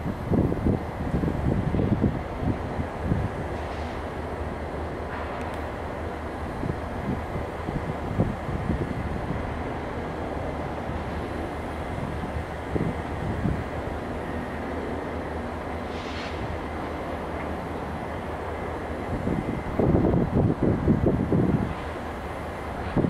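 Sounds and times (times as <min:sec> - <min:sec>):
low rumble of bridge machinery: 0:00.0 - 0:23.0
wind buffeting microphone: 0:00.0 - 0:23.0.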